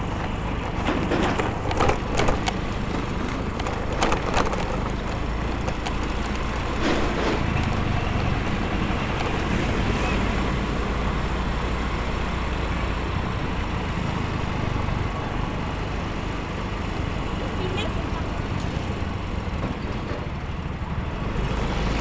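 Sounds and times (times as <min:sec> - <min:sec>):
motorcycle engine hum: 0:00.0 - 0:19.6
wind and road noise: 0:00.0 - 0:22.0.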